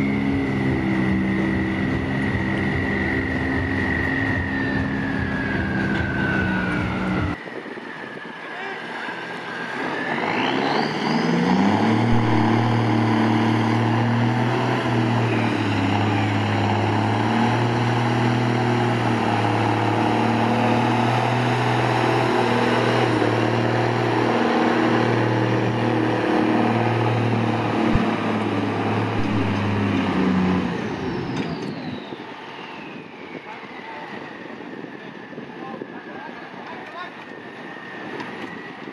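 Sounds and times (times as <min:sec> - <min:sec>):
truck engine revving: 0:00.0 - 0:07.4, 0:08.9 - 0:32.8
turbo whine: 0:00.0 - 0:36.8.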